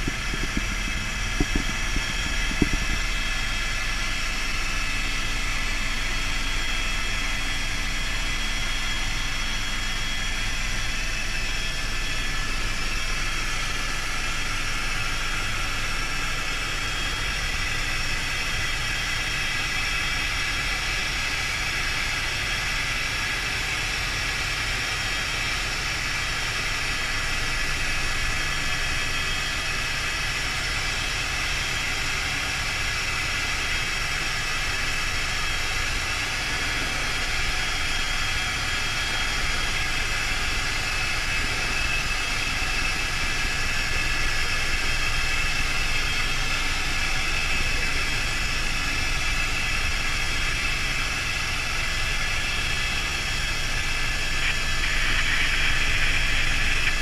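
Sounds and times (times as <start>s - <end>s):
helicopter engine and rotor: 0.0s - 57.0s.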